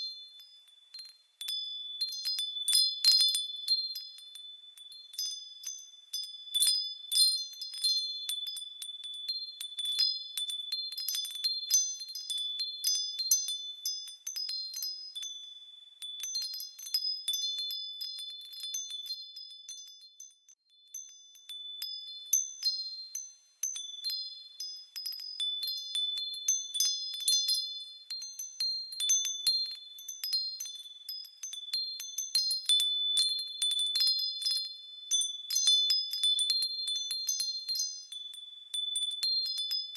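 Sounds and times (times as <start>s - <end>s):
wind chimes tinkling: 0.0s - 39.9s.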